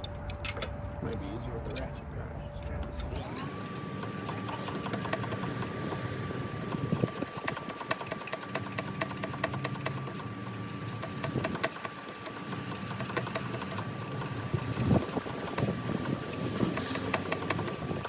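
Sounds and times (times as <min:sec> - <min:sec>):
hand ratchet clicking: 0:03.0 - 0:18.0.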